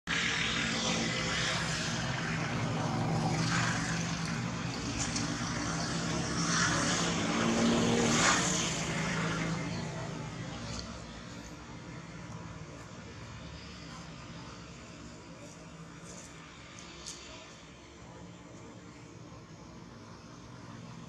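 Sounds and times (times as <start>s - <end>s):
engine drone: 0.1s - 21.0s.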